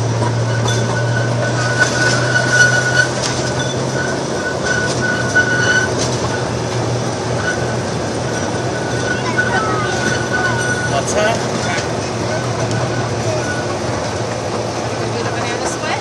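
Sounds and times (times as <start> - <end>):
whine: 0.0 - 15.0
ride train hum and rumble: 0.0 - 16.0.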